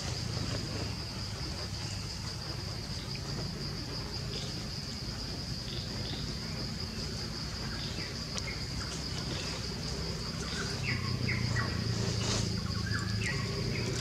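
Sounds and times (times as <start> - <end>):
high-pitched insect drone: 0.0 - 14.0
insect chirps: 0.0 - 14.0.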